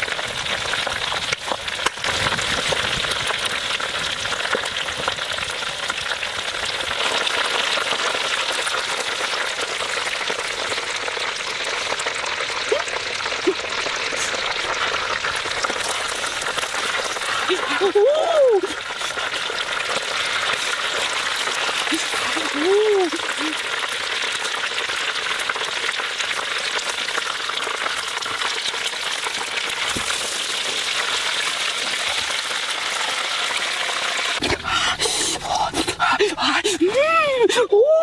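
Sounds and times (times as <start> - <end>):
food frying sizzle: 0.0 - 34.5.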